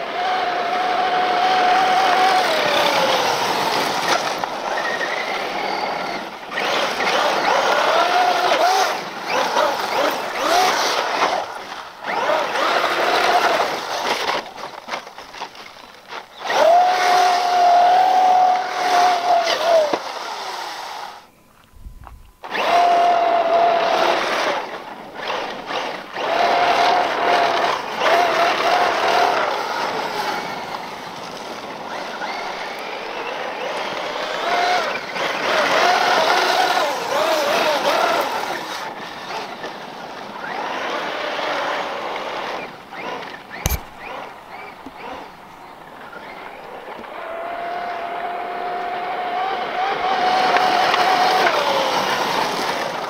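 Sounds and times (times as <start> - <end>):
electric rc truck motor whine: 0.0 - 53.0
tires throwing dirt: 0.0 - 53.0.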